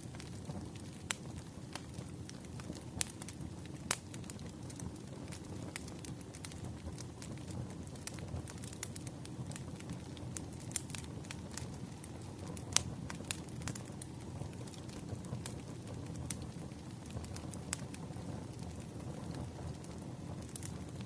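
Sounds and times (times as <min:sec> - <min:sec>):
campfire flames rumbling: 0:00.0 - 0:21.0
fire crackling and popping: 0:00.0 - 0:21.0.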